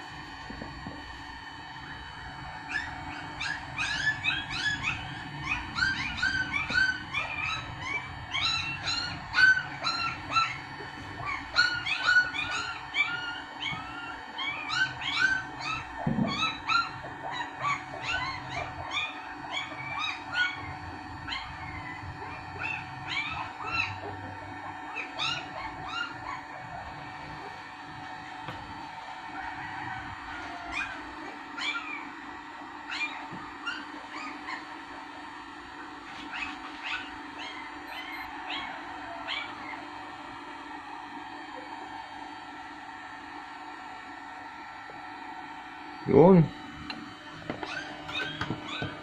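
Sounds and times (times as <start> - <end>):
hot air blower whirring: 0.0 - 49.0.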